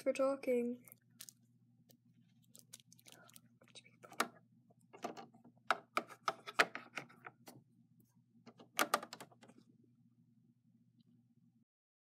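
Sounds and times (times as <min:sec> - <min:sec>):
faint steady hum: 0:00.0 - 0:11.6.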